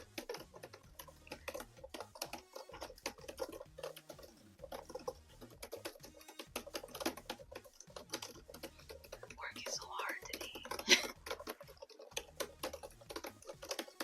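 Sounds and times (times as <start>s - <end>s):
quick irregular clicking: 0.0s - 14.0s.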